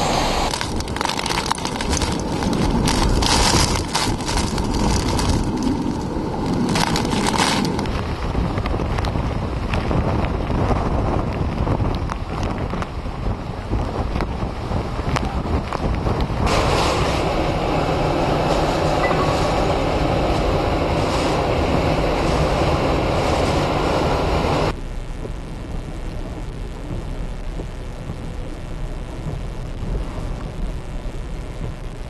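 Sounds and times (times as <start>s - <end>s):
deep rumble: 0.0s - 32.0s
hurricane wind and heavy rain: 0.0s - 32.0s.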